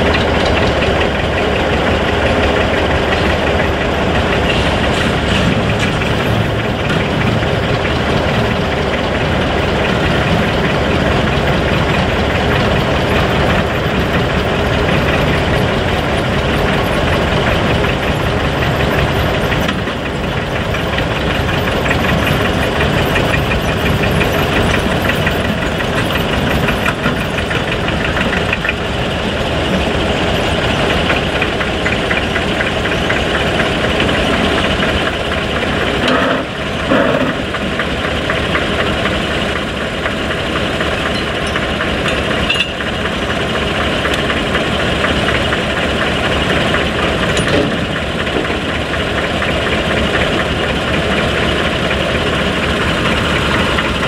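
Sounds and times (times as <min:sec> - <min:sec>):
diesel locomotive engine idling: 0:00.0 - 0:54.0.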